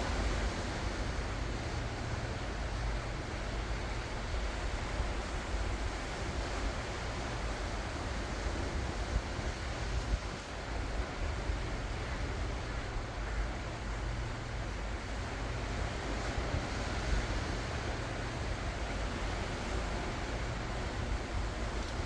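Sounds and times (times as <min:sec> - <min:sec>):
ocean waves washing in: 0:00.0 - 0:22.0
wind rumble on microphone: 0:00.0 - 0:22.0.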